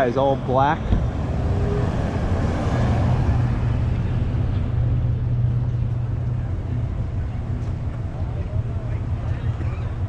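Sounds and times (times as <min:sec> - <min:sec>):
car driving past: 0:00.0 - 0:10.0
low hum of engines: 0:00.0 - 0:10.0.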